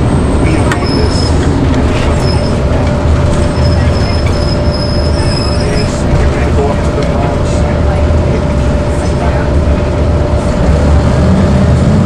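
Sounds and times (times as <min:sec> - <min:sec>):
bus engine low drone: 0:00.0 - 0:12.0.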